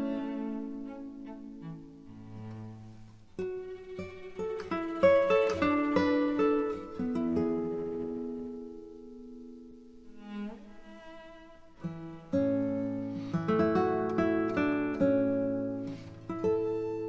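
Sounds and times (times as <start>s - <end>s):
plucked string music: 0.0s - 17.0s.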